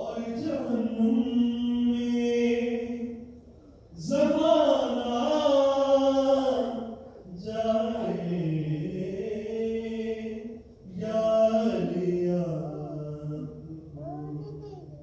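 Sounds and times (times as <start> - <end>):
person chanting devotional song: 0.0 - 3.4, 4.0 - 15.0.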